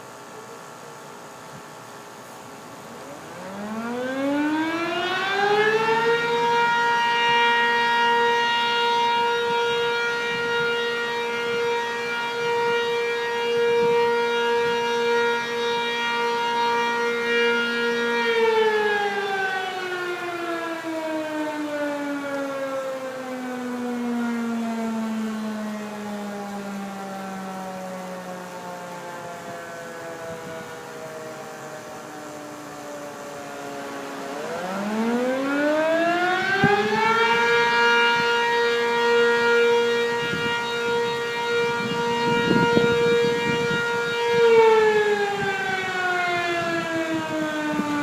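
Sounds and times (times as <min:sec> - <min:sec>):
warning siren wailing: 0:00.0 - 0:48.0.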